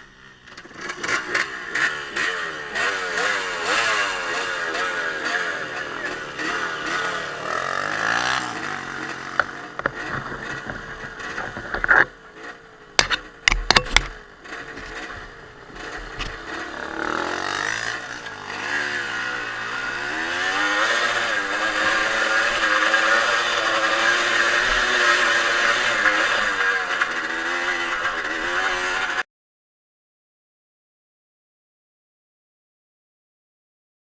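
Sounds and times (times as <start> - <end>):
motorcycle engine revving: 0.0 - 29.2.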